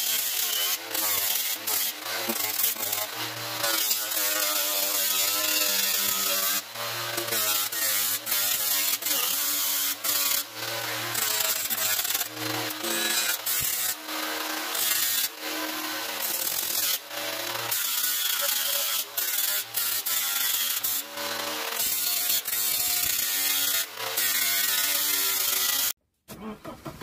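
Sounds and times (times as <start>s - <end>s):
angle grinder stripping rust: 0.0s - 26.0s.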